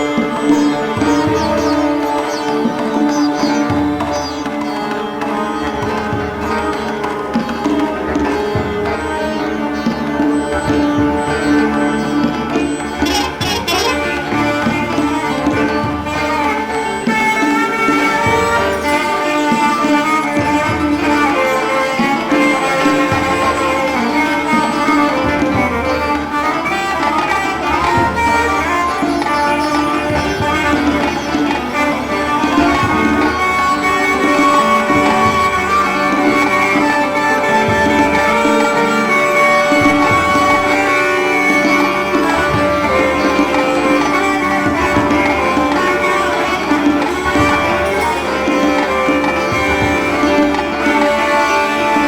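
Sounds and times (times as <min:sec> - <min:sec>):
string instruments music: 0:00.0 - 0:52.0.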